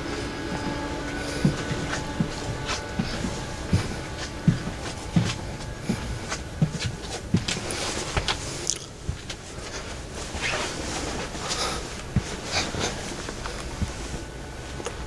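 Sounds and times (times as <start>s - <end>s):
footsteps on floor: 0.0s - 15.0s
steady background noise: 0.0s - 15.0s.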